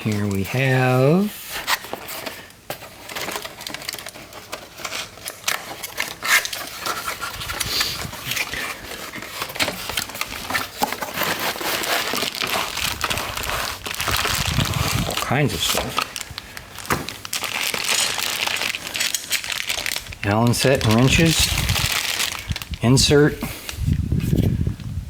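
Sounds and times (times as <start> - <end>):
packaging rustling and crinkling: 0.0 - 24.9.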